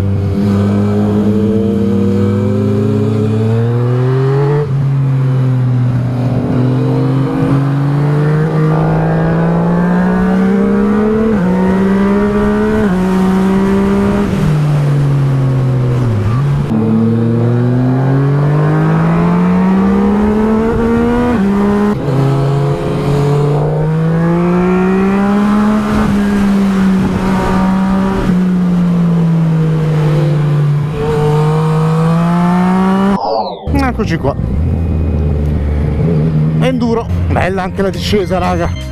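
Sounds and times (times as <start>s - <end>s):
motorcycle engine accelerating: 0.0s - 33.2s.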